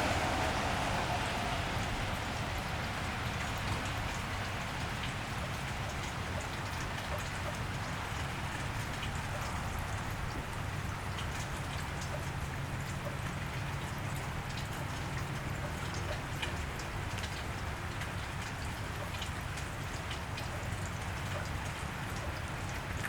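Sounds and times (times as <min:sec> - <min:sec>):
drips ticking: 0:00.0 - 0:23.0
rain on wet street: 0:00.0 - 0:23.0.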